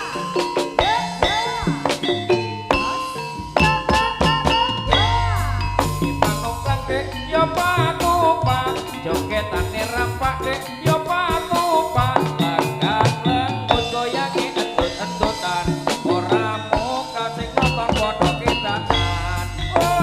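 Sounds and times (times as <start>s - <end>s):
drums beating busy rhythm: 0.0s - 20.0s
wavering ornamented melody: 0.0s - 20.0s.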